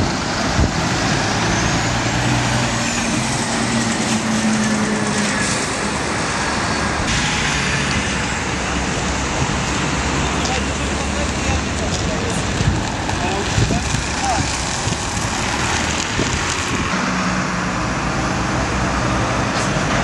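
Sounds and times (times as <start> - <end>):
other vehicles passing: 0.0 - 20.0
truck driving past: 0.0 - 20.0.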